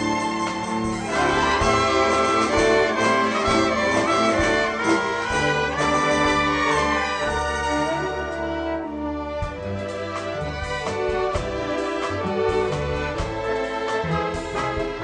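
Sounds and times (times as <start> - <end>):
orchestra playing a tango: 0.0 - 15.0.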